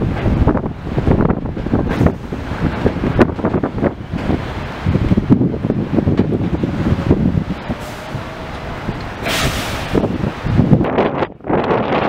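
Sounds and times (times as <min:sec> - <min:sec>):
subway train wheels clunking: 0:00.0 - 0:12.0
train rumble: 0:00.0 - 0:12.0
wind buffeting microphone: 0:00.0 - 0:12.0.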